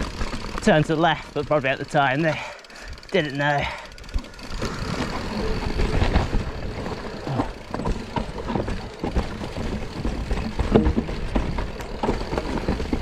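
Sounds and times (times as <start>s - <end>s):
bike knocking and rattling: 0.0s - 13.0s
bike tyres rumbling over rock: 0.0s - 13.0s.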